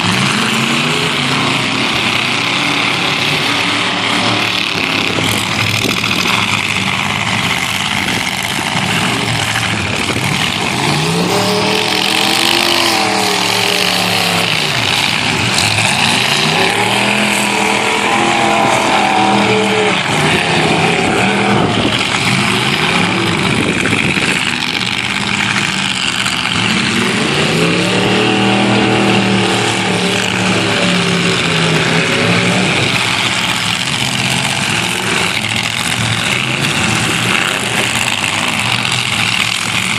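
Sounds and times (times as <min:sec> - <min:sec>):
din of engines running: 0:00.0 - 0:39.9
truck engines revving hard: 0:00.0 - 0:39.9.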